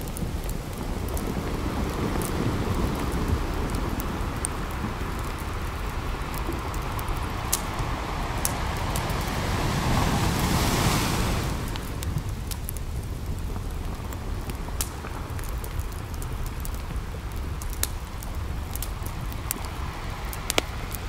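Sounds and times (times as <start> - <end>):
campfire crackling and popping: 0.0 - 21.0
ocean surf: 0.2 - 15.9, 17.4 - 21.0.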